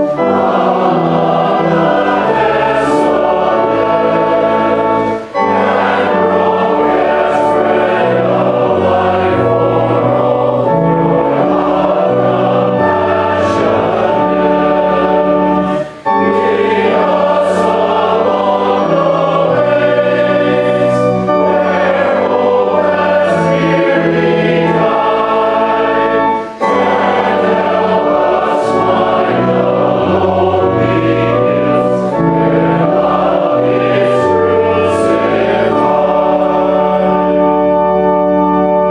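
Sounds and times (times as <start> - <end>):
voices singing a hymn: 0.0 - 38.9.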